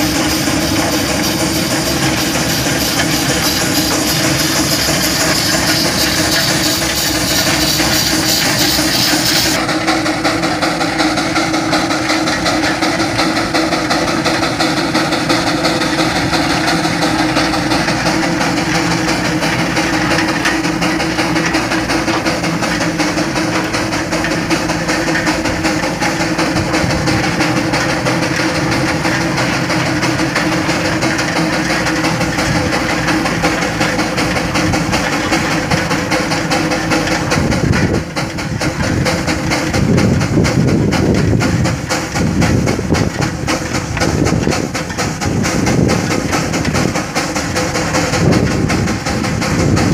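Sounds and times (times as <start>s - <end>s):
mechanical clatter: 0.0s - 49.9s
steam engine exhaust beat: 0.0s - 49.9s.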